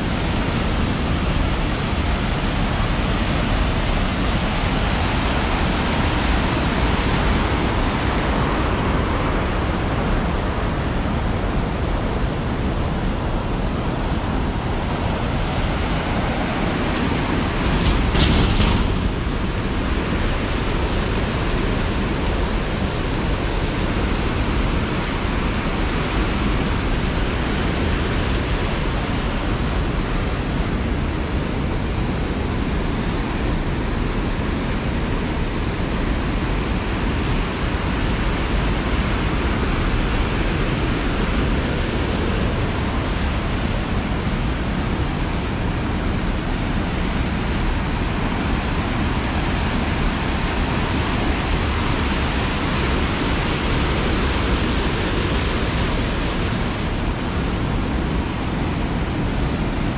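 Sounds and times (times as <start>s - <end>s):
water rushing over weirs: 0.0s - 59.9s.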